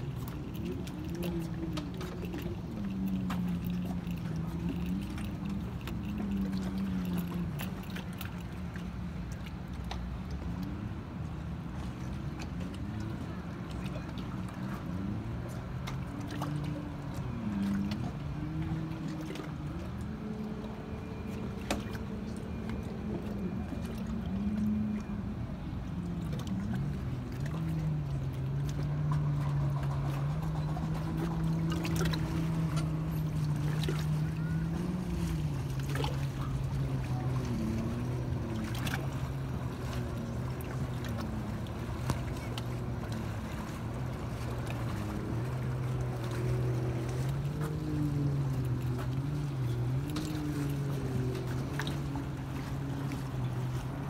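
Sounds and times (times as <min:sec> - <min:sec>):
motorboat engine idling: 0:00.0 - 0:54.0.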